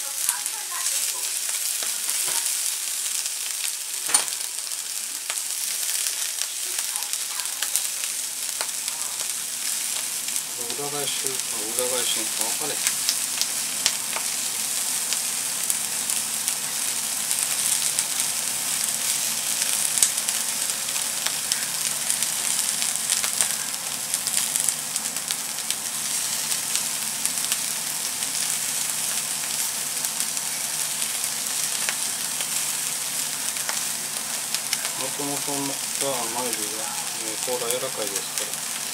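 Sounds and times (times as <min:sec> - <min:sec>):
shrimp heads sizzling in a pan: 0:00.0 - 0:38.9.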